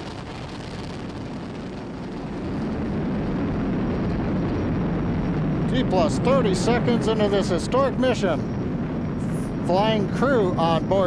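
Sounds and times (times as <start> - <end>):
rocket engines rumbling: 0.0 - 11.0.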